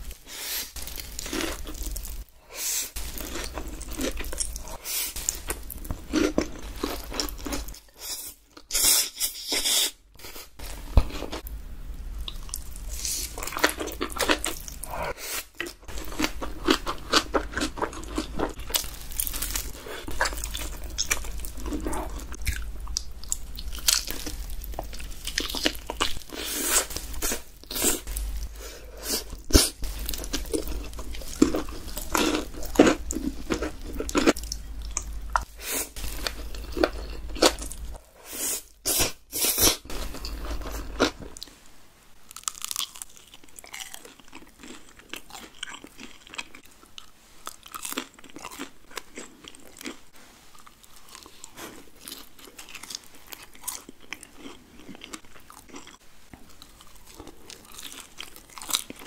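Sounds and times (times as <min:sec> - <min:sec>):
crunching and chewing fried food: 0:00.0 - 0:02.3, 0:02.9 - 0:11.5, 0:12.2 - 0:41.6, 0:42.2 - 0:59.0.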